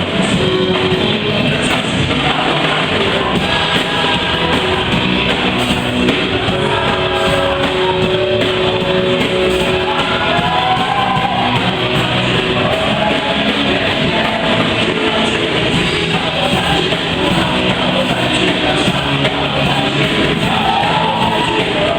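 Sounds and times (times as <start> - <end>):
band playing upbeat song: 0.0 - 21.9
electric guitar: 0.0 - 21.9
person singing: 0.0 - 21.9.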